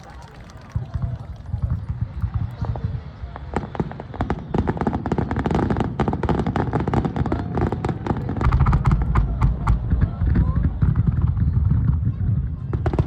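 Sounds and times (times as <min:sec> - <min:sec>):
fireworks crackling: 0:00.0 - 0:13.0
deep fireworks booms: 0:00.8 - 0:13.0.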